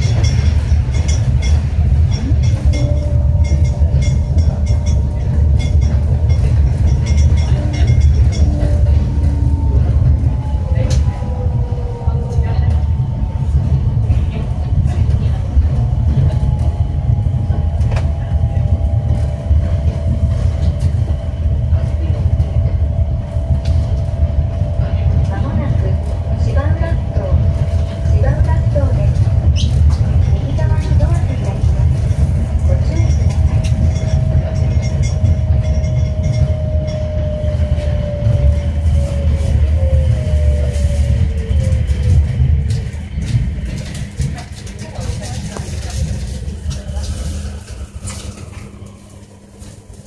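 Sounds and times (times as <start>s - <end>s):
train running low rumble: 0.0s - 50.0s.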